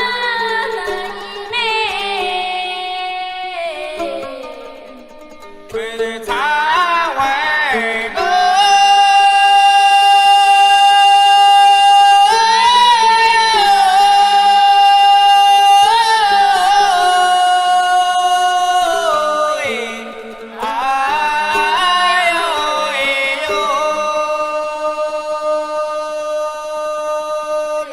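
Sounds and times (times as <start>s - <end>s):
high voice folk singing: 0.0s - 27.9s
lower steady accompanying part: 0.0s - 27.9s.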